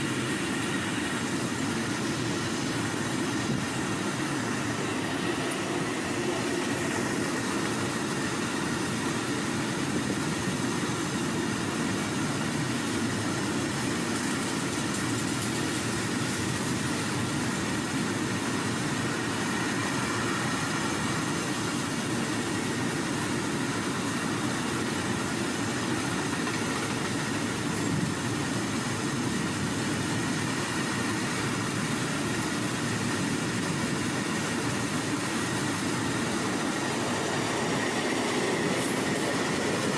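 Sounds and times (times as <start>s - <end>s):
steel wheels on rail: 0.0s - 39.9s.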